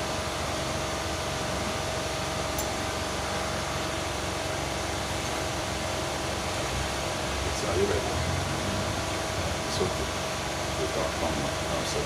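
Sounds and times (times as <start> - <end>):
mechanical hum with whine: 0.0 - 12.0.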